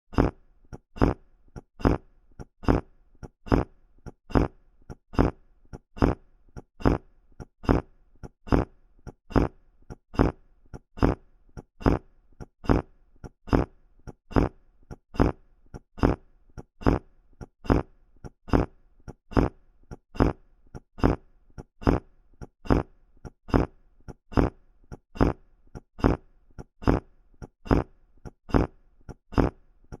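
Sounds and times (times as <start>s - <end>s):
wet sputtering fart: 0.1s - 19.6s, 20.2s - 20.4s, 21.0s - 27.9s, 28.5s - 30.0s.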